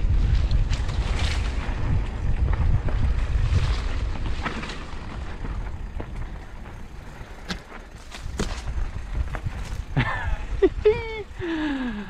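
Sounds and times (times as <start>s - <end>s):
mountain bike on dirt trail: 0.0s - 12.0s
wind rumbling on microphone: 0.0s - 12.0s.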